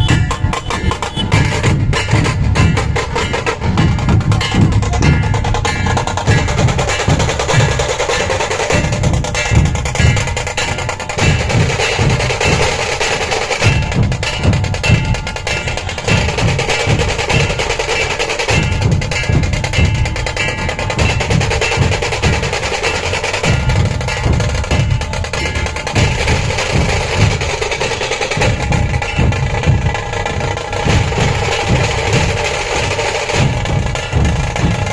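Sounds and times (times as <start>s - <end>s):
deep drum strokes: 0.0s - 34.9s
rapid drum rattle: 0.0s - 34.9s.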